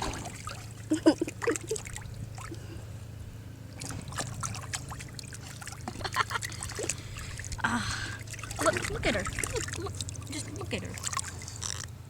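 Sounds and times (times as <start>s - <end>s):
bath water sloshing and trickling: 0.0s - 12.0s
water splashes: 0.0s - 12.0s.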